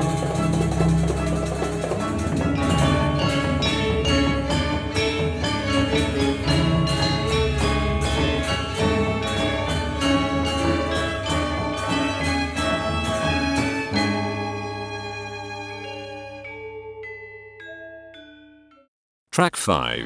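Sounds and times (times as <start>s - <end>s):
bowed string tones: 0.0s - 17.0s
struck metallophone runs: 0.0s - 17.0s.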